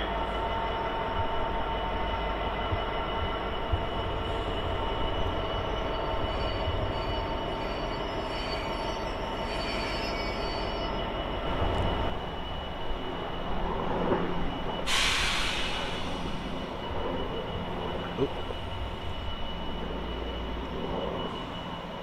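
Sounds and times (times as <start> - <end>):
diesel locomotive engine running: 0.0 - 22.0
faint high squeal: 2.0 - 13.5, 14.2 - 22.0.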